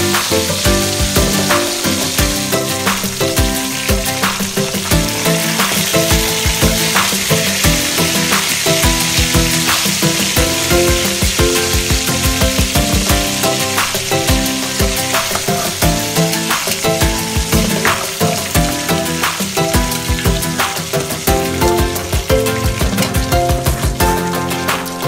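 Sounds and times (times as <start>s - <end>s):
background music with beat: 0.0s - 25.0s
chicken sizzling in oil: 0.0s - 25.0s.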